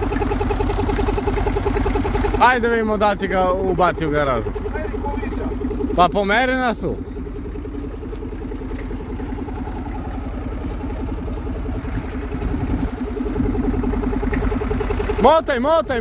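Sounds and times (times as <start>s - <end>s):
old tractor engine running: 0.0s - 16.0s.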